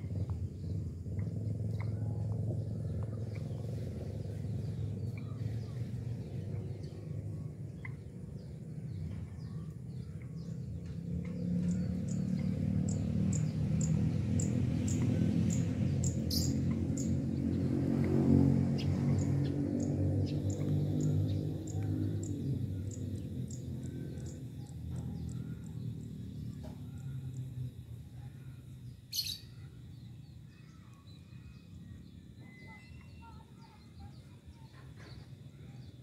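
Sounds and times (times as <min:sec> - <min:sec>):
steady low rumble: 0:00.0 - 0:32.2
small birds chirping: 0:00.0 - 0:36.0.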